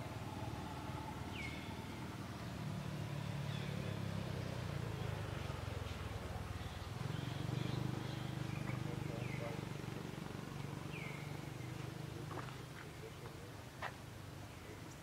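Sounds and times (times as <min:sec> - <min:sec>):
low engine hum: 0:00.0 - 0:15.0
bird chirp: 0:01.2 - 0:13.6.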